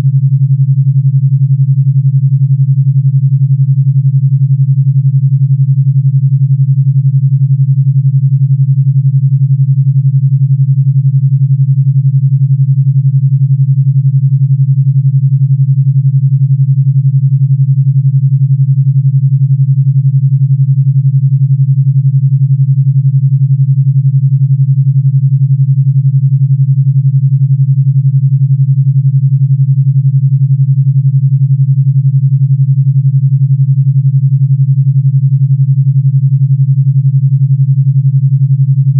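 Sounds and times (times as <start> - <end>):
low electronic pure tone: 0.0 - 38.9.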